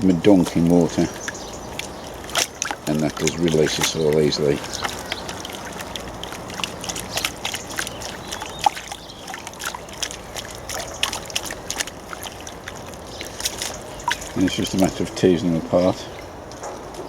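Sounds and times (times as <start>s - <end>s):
small splashes and drips: 0.0s - 17.0s
water sloshing in a bucket: 0.0s - 17.0s.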